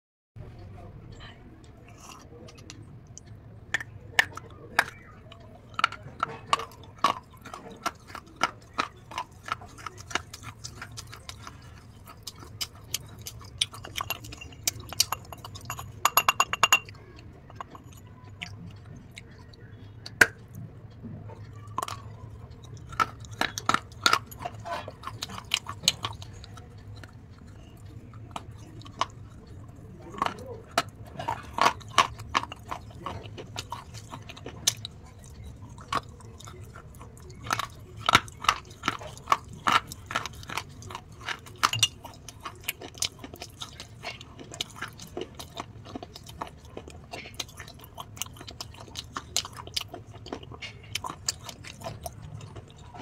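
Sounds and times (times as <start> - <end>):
crunchy food chewing: 1.5 - 53.0.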